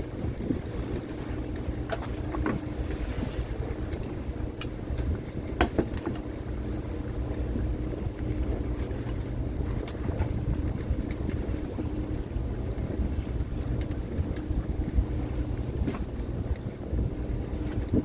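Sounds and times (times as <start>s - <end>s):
boat engine running: 0.0s - 18.0s
wind on the microphone: 0.0s - 18.0s.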